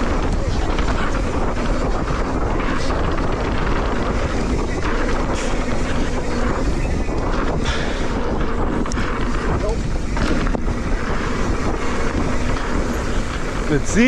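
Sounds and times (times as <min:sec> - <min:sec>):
bike clicks and rattles: 0:00.0 - 0:14.0
tyres rolling on dirt: 0:00.0 - 0:14.0
wind rush on microphone: 0:00.0 - 0:14.0.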